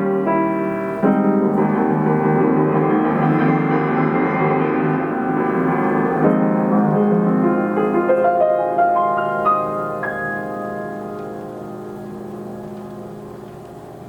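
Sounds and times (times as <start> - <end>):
grand piano chord and rising run: 0.0 - 14.0.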